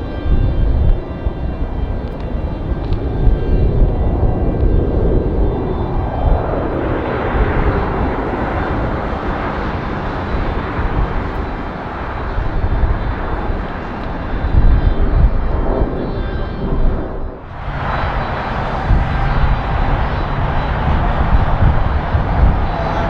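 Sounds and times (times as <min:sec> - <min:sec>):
jet airliner engines roaring: 0:00.0 - 0:23.0
low rumble: 0:00.0 - 0:23.0.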